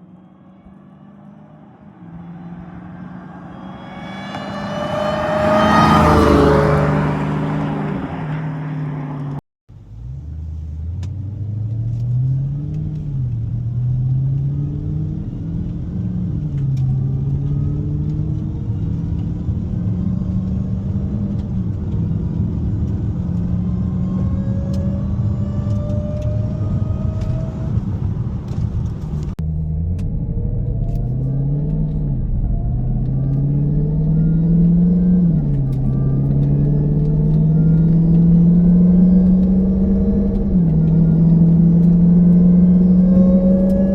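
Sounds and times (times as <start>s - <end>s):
car engine revving through gears: 0.0s - 43.9s
supercharger whine: 0.0s - 43.9s.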